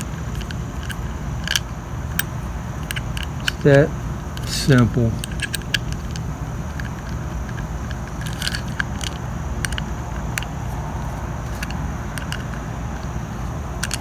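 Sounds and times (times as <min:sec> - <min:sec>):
metallic clicks and scrapes: 0:00.0 - 0:14.0.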